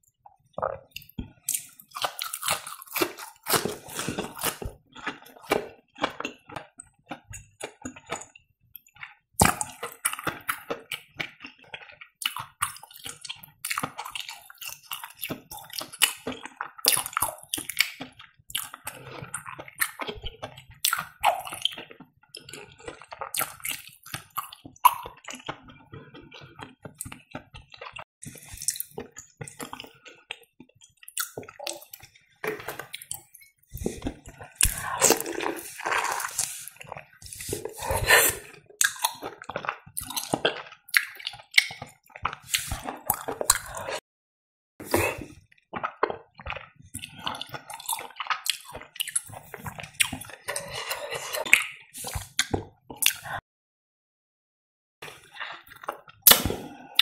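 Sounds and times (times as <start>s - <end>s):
wet chewing mouth sounds: 0.5s - 44.0s, 44.8s - 53.4s.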